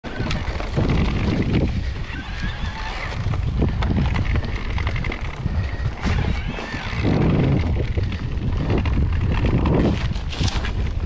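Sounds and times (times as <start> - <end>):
bike rumbling and rattling: 0.0 - 11.0
wind buffeting microphone: 0.0 - 11.0.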